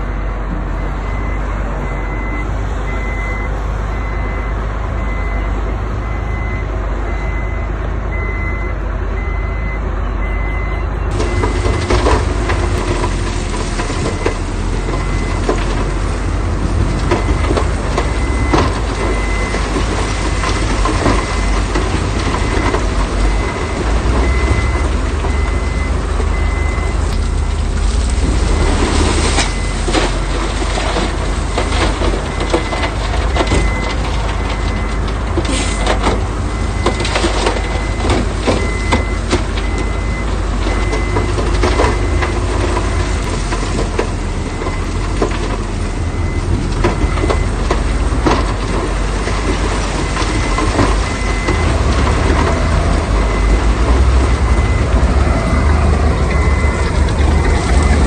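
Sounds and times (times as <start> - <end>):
reversing alarm beeping: 0.0 - 16.0, 17.1 - 35.0, 36.5 - 48.8, 49.9 - 58.0
diesel engine rumbling: 0.0 - 58.0.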